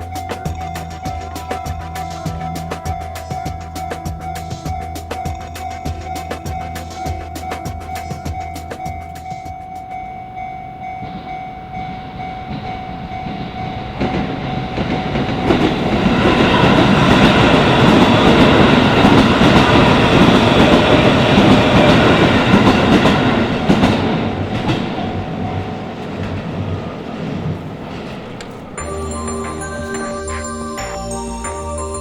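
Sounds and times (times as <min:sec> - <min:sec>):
level crossing warning bell: 0:00.0 - 0:27.0, 0:27.8 - 0:32.0
train wheels clattering on rails: 0:00.0 - 0:31.2.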